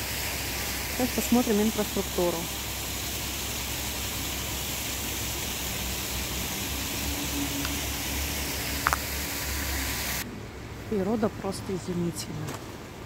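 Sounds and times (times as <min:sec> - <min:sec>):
outdoor rushing hiss: 0:00.0 - 0:10.8.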